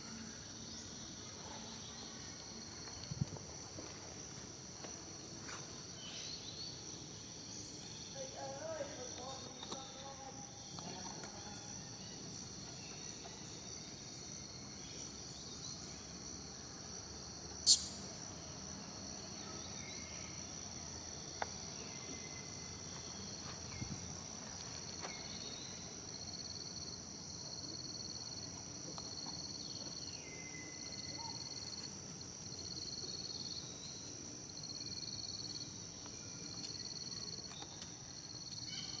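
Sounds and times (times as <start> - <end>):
crickets and cicadas droning: 0.0 - 39.0.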